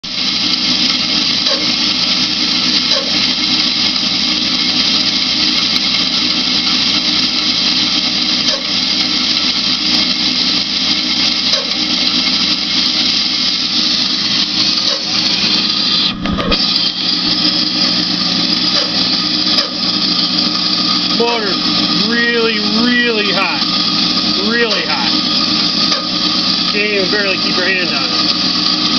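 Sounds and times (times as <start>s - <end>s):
bandsaw motor hum: 0.0s - 28.9s
steady whining tones: 0.0s - 28.9s.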